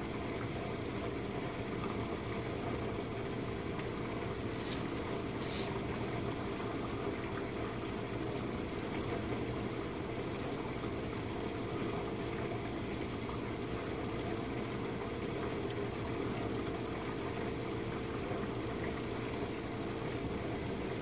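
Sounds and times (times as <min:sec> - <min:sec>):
dishwasher pump humming: 0:00.0 - 0:21.0
water spraying and sloshing: 0:03.6 - 0:20.8.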